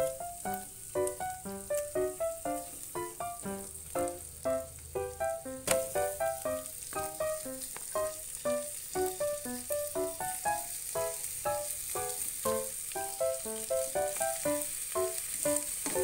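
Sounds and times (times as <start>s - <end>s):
food sizzling in a pan: 0.0s - 16.0s
plucked notes music: 0.0s - 16.0s.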